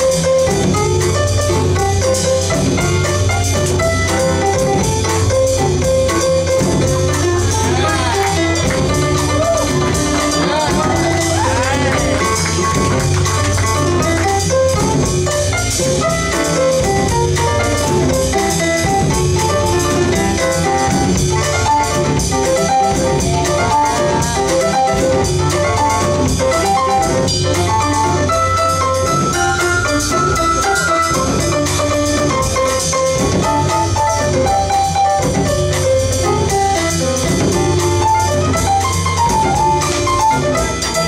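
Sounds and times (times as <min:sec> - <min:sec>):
acoustic piano: 0:00.0 - 0:41.0
drum kit: 0:00.0 - 0:41.0
upright double bass: 0:00.0 - 0:41.0.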